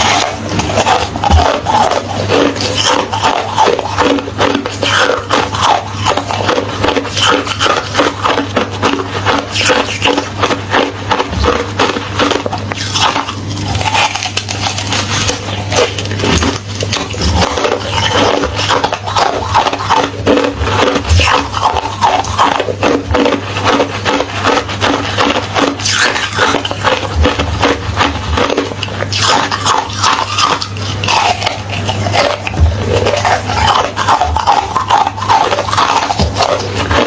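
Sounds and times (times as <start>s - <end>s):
ice being chewed and crunched: 0.0s - 37.0s
steady low hum: 0.0s - 37.0s.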